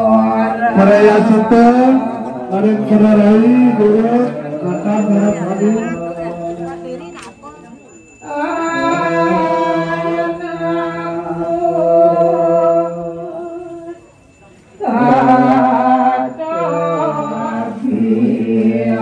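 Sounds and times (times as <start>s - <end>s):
prayer chant in held notes: 0.0s - 7.2s, 8.2s - 19.0s.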